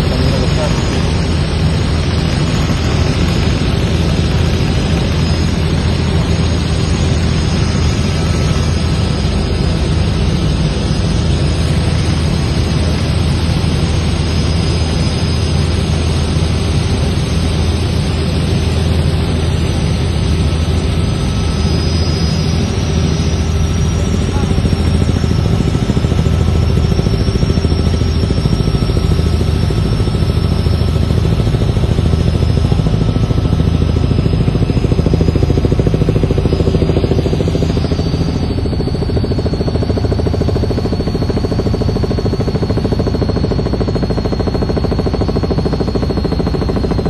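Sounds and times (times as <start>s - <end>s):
engine droning: 0.0s - 47.0s
high whine: 0.0s - 47.0s.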